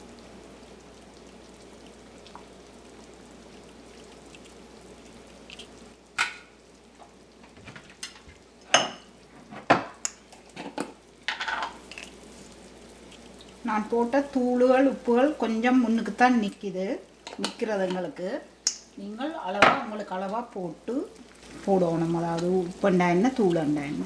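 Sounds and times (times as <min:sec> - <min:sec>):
curry simmering with faint sizzle: 0:00.0 - 0:24.0.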